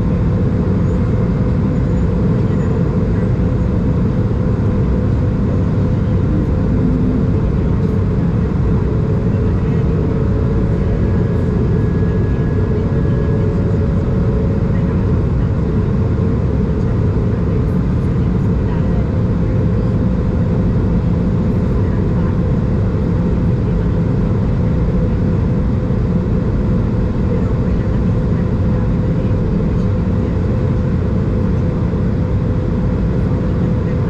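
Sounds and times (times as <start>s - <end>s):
jet engine hum: 0.0s - 34.0s.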